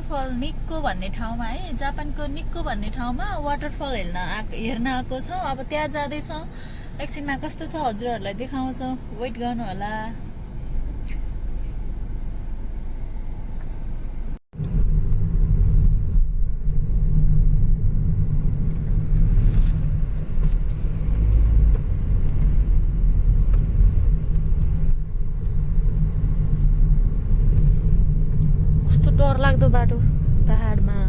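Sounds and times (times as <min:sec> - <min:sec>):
car cabin road and engine rumble: 0:00.0 - 0:31.0.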